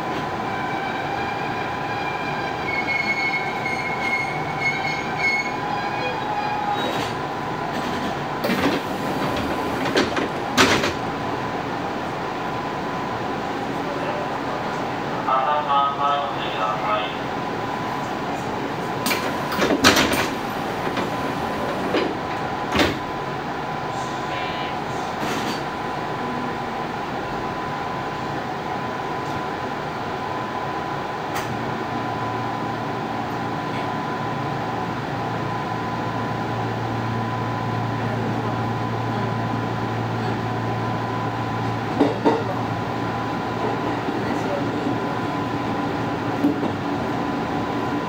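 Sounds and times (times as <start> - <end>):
train rumble and hiss: 0.0 - 48.0.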